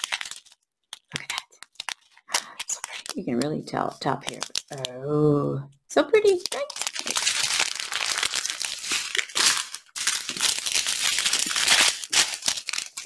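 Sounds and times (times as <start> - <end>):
plastic bags crinkling: 0.0 - 4.9, 6.4 - 13.0.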